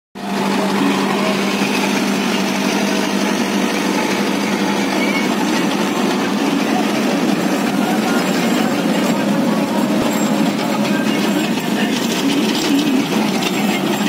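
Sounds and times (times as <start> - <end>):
tractor diesel engine running: 0.2 - 14.0.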